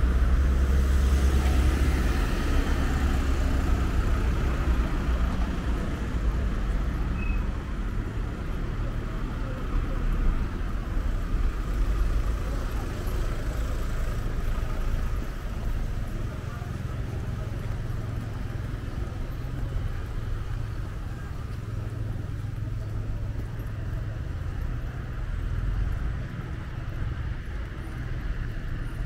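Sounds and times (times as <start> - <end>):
cars idling in a queue: 0.0 - 29.0
cars passing: 0.0 - 29.0.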